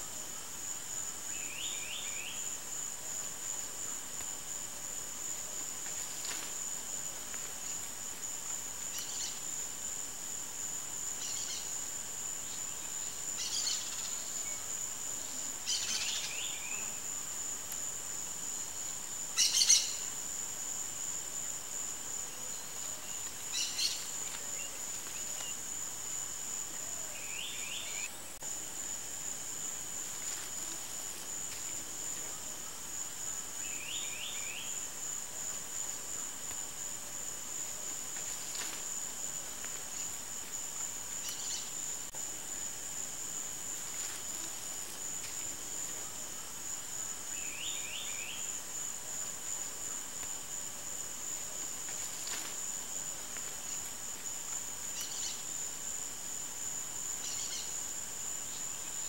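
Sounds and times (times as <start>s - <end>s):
insect trill: 0.0s - 59.0s.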